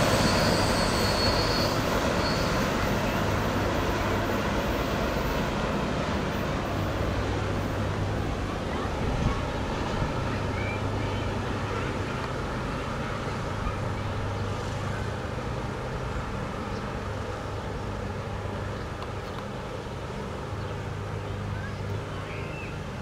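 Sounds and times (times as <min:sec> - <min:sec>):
rumble of train wheels on rail: 0:00.0 - 0:23.0.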